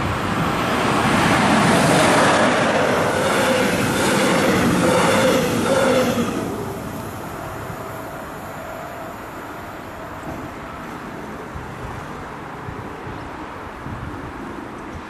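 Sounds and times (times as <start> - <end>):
wind buffeting microphone: 0.0 - 8.0, 10.2 - 15.0
train rumble: 0.0 - 15.0.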